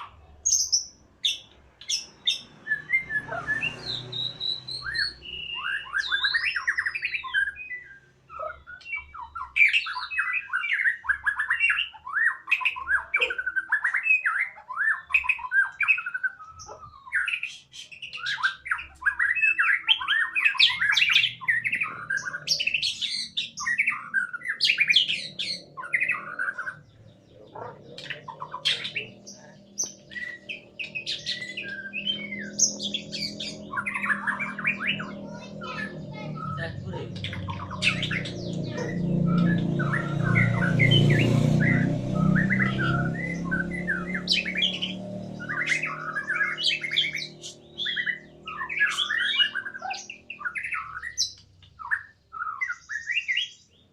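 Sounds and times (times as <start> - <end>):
songbirds chirping and squawking: 0.0 - 53.9.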